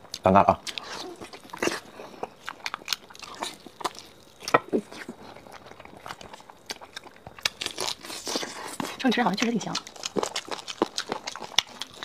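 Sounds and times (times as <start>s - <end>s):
person chewing meat: 0.0s - 12.0s.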